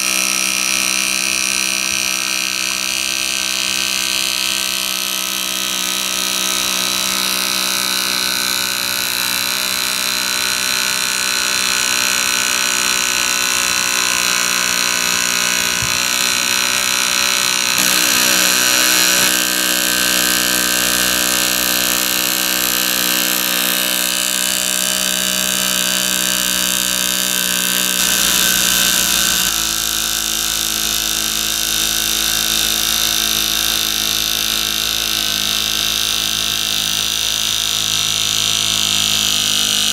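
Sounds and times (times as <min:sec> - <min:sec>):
small steam engine running: 0:00.0 - 0:39.9.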